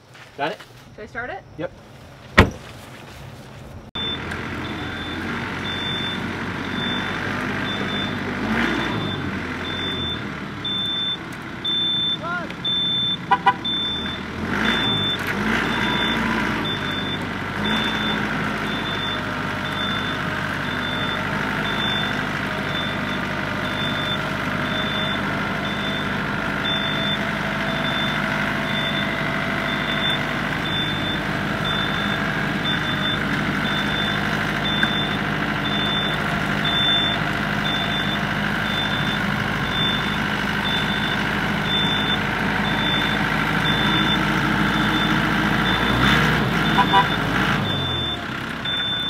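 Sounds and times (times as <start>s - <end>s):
tractor diesel engine running: 3.8s - 49.0s
reversing alarm beeping: 4.0s - 49.0s.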